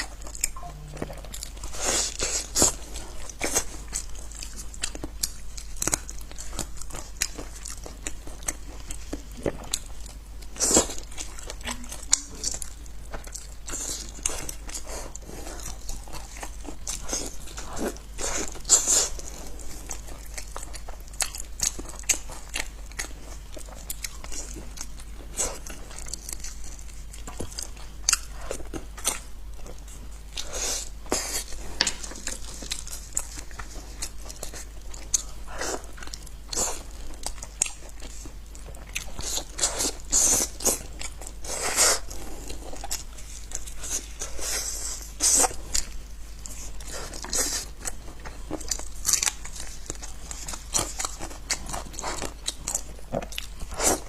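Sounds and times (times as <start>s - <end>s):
chewing and crunching meat: 0.0s - 54.0s
steady low hum: 0.0s - 54.0s.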